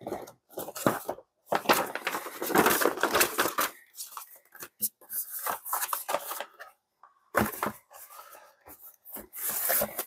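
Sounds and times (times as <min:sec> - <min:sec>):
packaging rustling and scraping: 0:00.0 - 0:06.8, 0:07.4 - 0:10.0.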